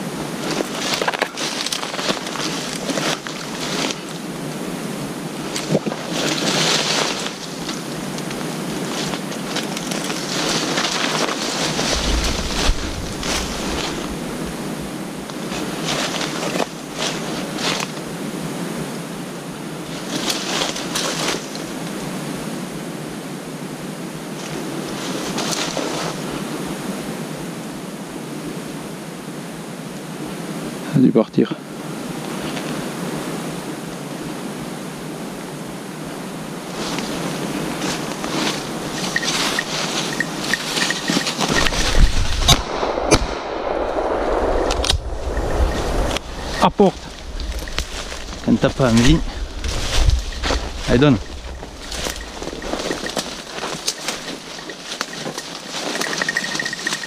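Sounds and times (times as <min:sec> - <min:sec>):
rustling of dry brush and leaves: 0:00.0 - 0:28.8, 0:31.6 - 0:57.0
wind rumble on microphone: 0:02.6 - 0:28.8, 0:32.1 - 0:57.0.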